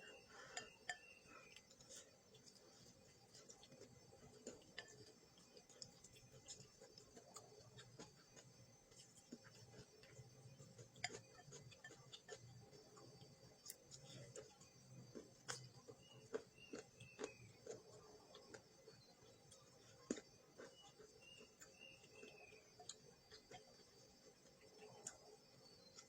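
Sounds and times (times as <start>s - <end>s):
person eating crunchy food: 0.0s - 26.0s.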